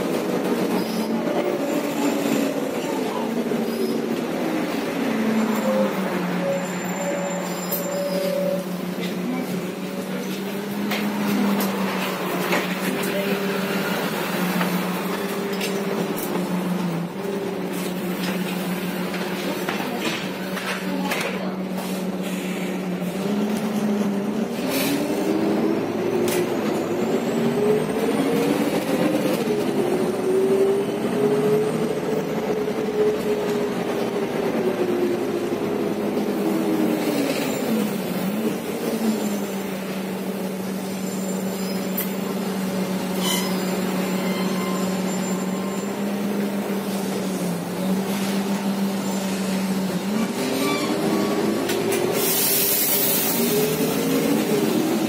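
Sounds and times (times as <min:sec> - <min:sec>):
bus engine accelerating: 0:00.0 - 0:55.0.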